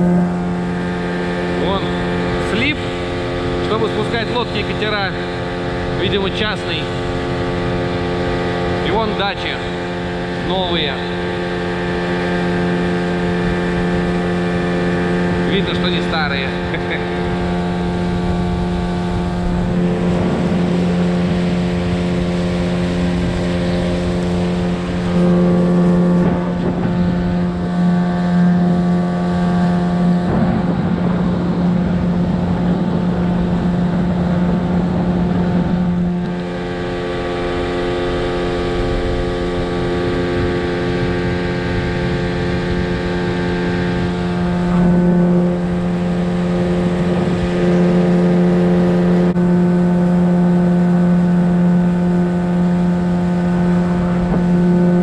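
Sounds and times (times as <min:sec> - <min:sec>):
motorboat engine humming: 0:00.0 - 0:55.0.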